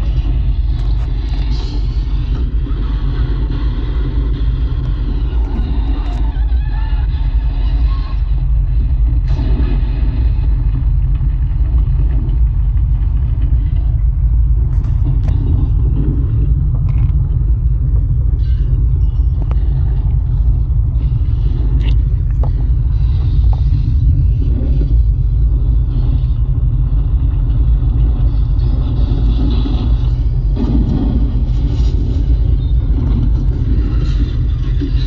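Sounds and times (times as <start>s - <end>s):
deep earthquake rumble: 0.0s - 35.0s.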